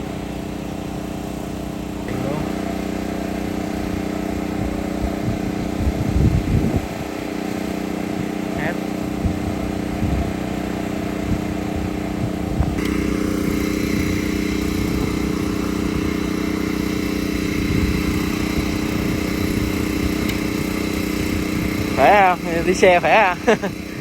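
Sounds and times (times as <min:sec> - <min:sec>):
drone rotors humming: 0:00.0 - 0:07.0, 0:10.6 - 0:24.0.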